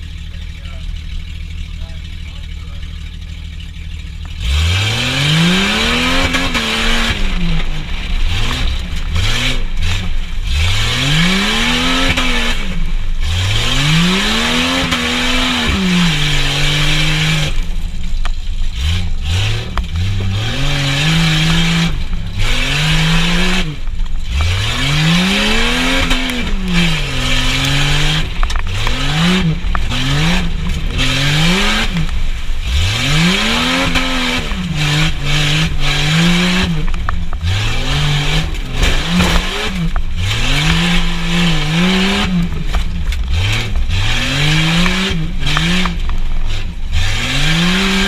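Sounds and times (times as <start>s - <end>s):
truck engine revving hard: 0.0s - 48.0s.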